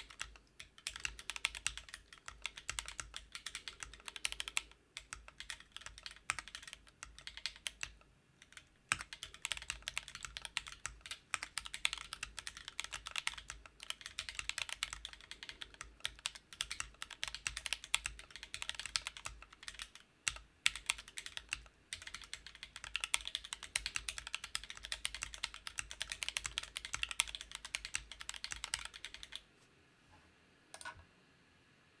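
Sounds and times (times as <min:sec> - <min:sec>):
fast typing on mechanical keyboard: 0:00.0 - 0:29.4.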